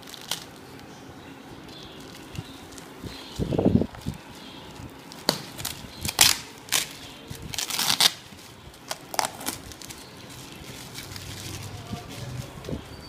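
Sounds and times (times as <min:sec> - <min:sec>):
packaging rustling and crackling: 0:00.0 - 0:01.0, 0:01.6 - 0:13.0.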